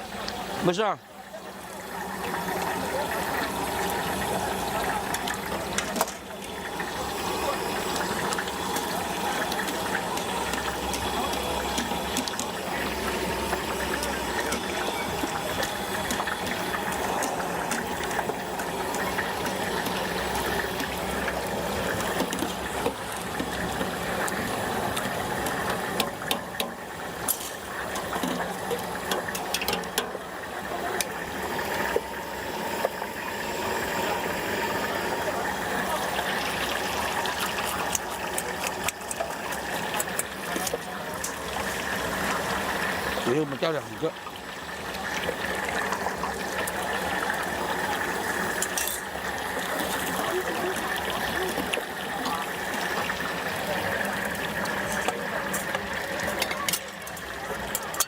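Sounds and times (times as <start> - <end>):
oil sizzling in a deep fryer: 0.0 - 58.0.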